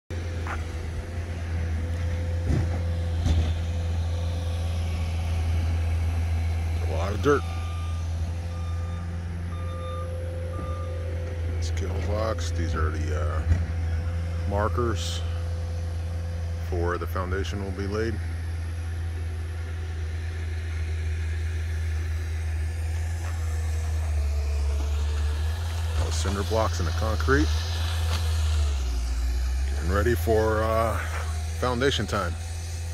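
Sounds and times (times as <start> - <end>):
vehicle engine rumbling: 0.0 - 32.9
faint whine: 0.1 - 32.9.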